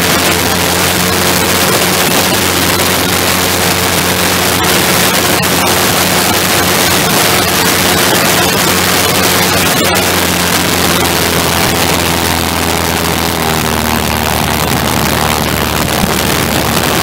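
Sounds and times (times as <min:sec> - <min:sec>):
small aircraft engine running: 0:00.0 - 0:17.0
wind rush on microphone: 0:00.0 - 0:17.0.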